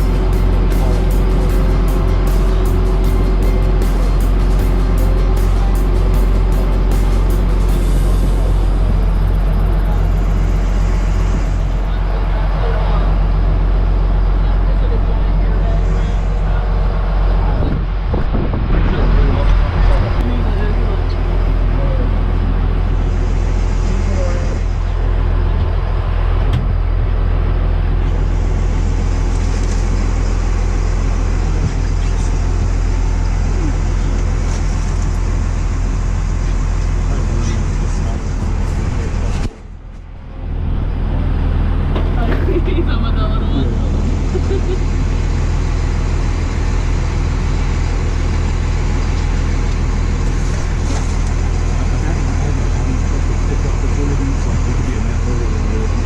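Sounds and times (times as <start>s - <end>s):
engine rumbling: 0.0s - 56.0s.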